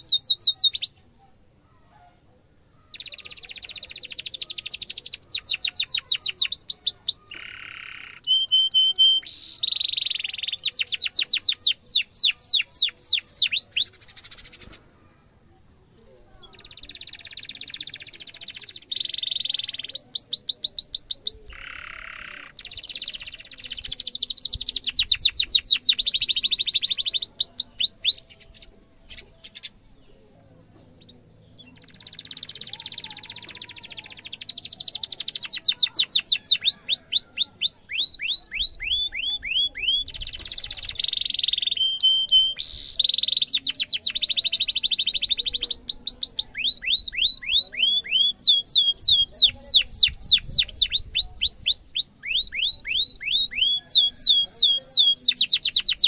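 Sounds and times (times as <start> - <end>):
canary singing: 0.0 - 1.0, 2.8 - 14.9, 16.4 - 30.2, 30.9 - 56.0.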